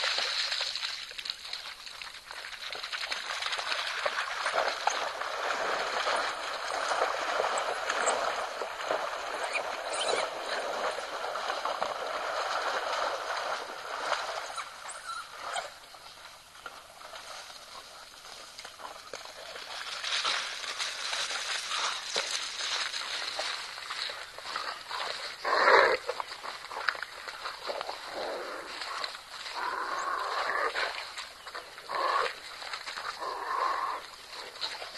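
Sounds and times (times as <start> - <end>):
water splashing and sloshing: 0.0 - 34.9.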